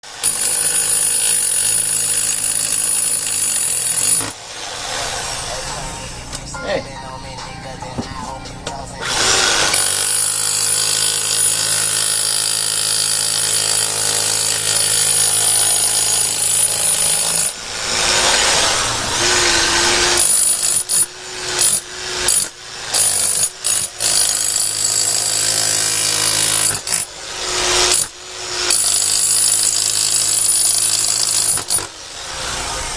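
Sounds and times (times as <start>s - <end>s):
jackhammer chipping at wall: 0.0s - 5.5s, 9.0s - 32.4s.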